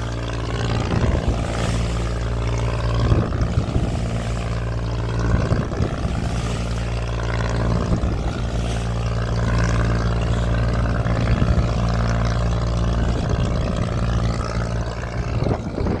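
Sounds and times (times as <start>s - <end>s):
water hissing: 0.0s - 15.4s
boat engine humming: 0.0s - 16.0s
wind: 0.0s - 16.0s.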